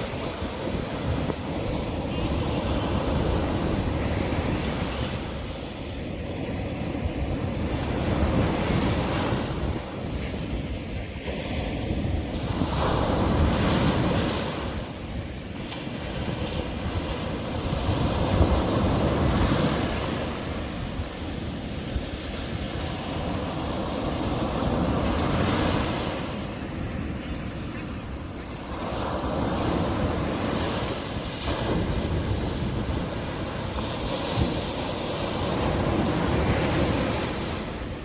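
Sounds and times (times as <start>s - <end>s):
sea waves breaking: 0.0s - 38.0s
wind on microphone: 0.0s - 38.0s.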